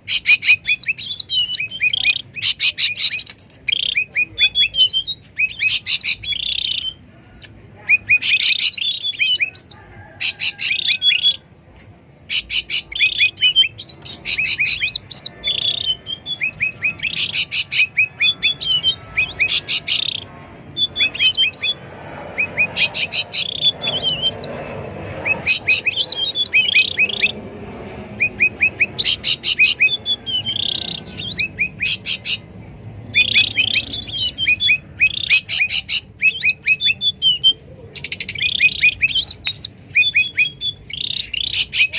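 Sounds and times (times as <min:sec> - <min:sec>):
birds chattering: 0:00.0 - 0:41.9.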